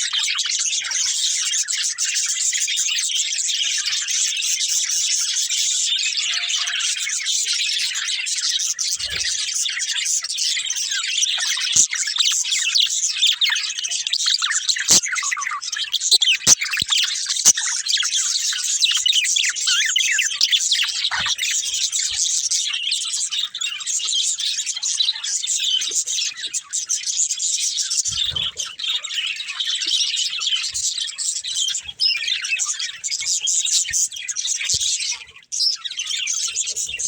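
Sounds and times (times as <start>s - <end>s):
budgerigars chirping: 0.0s - 37.0s.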